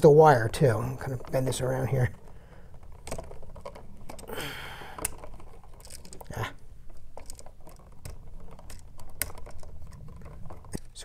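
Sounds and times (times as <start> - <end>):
wire and plastic clicks: 0.0 - 11.0.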